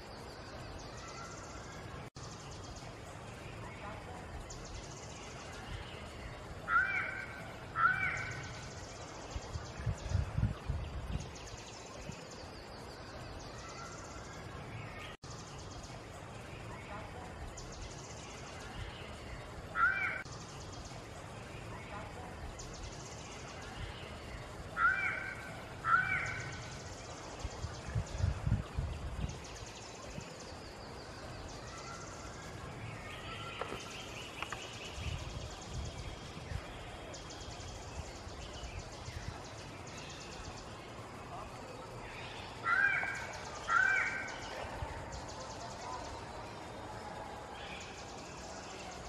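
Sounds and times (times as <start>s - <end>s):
bird calls: 0.0s - 10.4s, 11.2s - 49.0s
outdoor background hiss: 0.0s - 49.0s.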